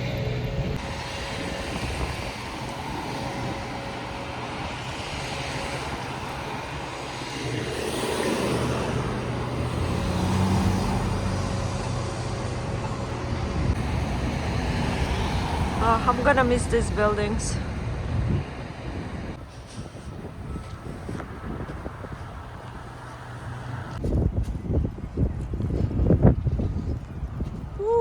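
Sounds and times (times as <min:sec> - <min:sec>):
motor vehicle engine drone: 0:00.0 - 0:24.1
road noise: 0:00.0 - 0:28.0.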